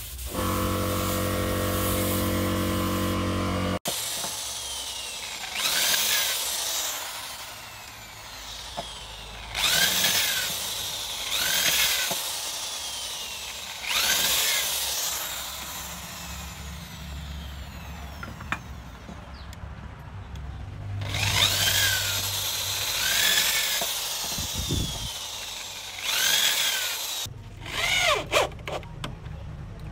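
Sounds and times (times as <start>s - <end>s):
electric drill boring into wood: 0.3s - 19.1s, 21.0s - 28.5s.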